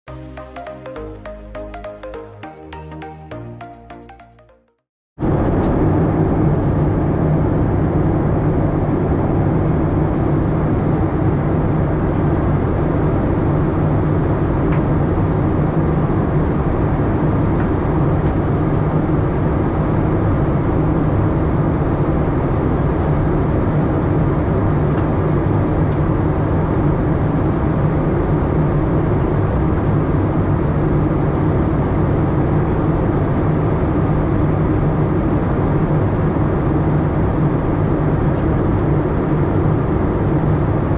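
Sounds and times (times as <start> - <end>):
airliner cabin drone: 5.2 - 40.9.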